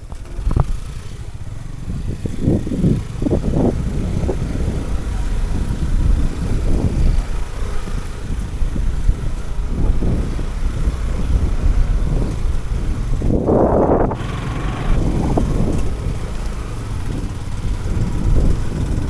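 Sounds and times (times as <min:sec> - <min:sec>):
motorcycle riding: 0:00.0 - 0:19.0
wind buffeting microphone: 0:00.0 - 0:19.0.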